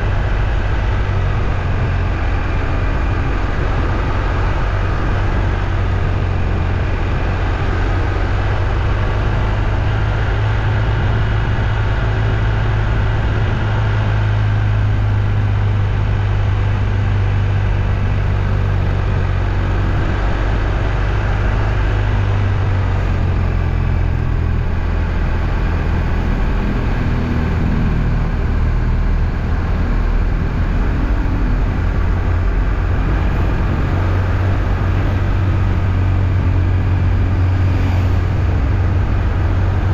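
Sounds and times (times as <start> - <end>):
vehicle rumble and road noise: 0.0 - 39.9.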